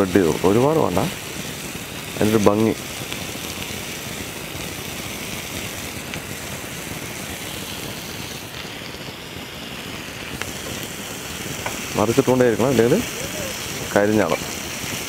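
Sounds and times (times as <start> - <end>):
chicken sizzling on grill pan: 0.0 - 15.0.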